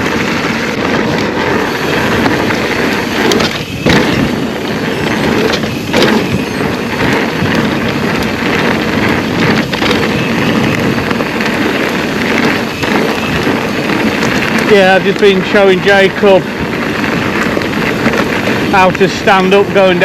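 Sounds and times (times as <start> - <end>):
bike knocking and rattling: 0.0 - 20.0
bike tyre noise on trail: 0.0 - 20.0.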